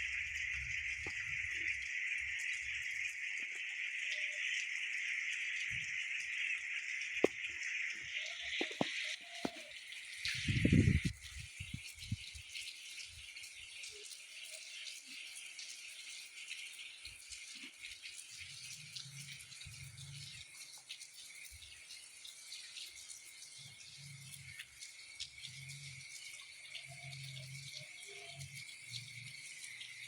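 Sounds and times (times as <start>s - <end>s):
water drips and ticks: 0.0s - 30.0s.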